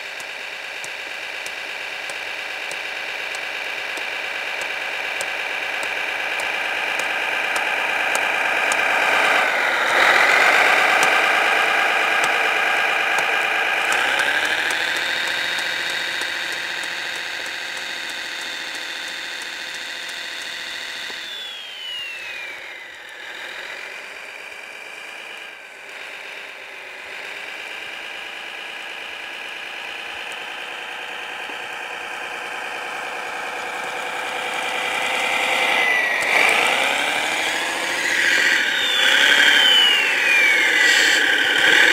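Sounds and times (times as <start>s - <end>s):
toy engine sound revving: 0.0s - 41.9s.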